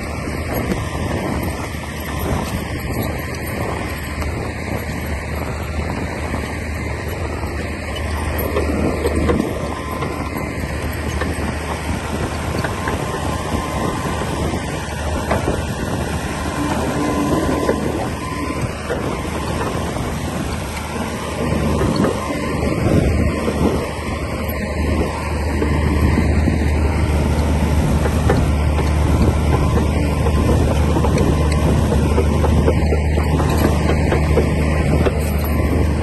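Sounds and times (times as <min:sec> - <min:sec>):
bulldozer diesel engine rumbling: 0:00.0 - 0:36.0.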